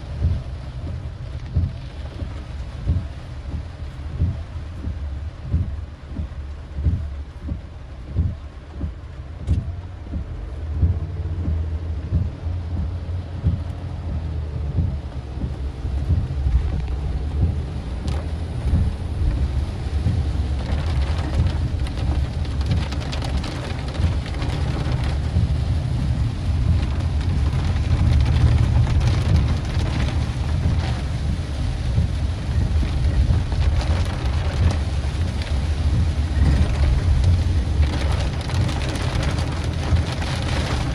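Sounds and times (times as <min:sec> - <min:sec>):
low rumble of car and road: 0:00.0 - 0:40.9
rain pattering on a car: 0:00.0 - 0:40.9.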